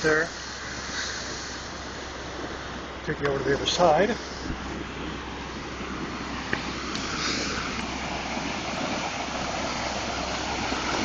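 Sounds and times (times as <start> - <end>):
rushing creek water: 0.0 - 11.0.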